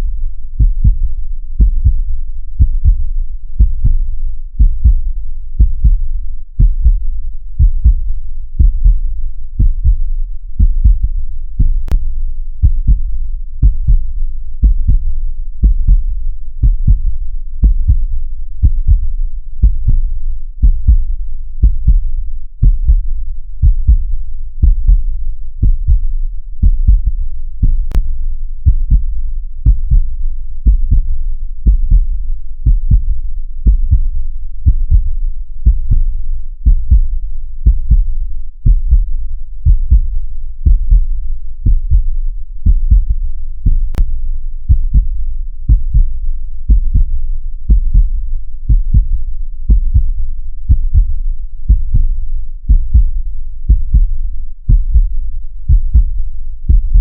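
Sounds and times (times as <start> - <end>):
heartbeat thumps: 0.6 - 4.0, 4.6 - 12.0, 12.6 - 57.0.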